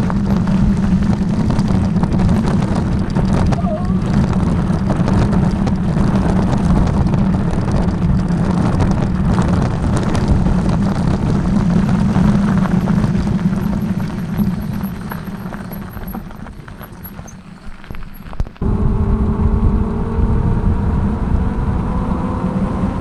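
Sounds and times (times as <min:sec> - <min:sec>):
vehicle engine running: 0:00.0 - 0:23.0
wind noise: 0:00.0 - 0:23.0.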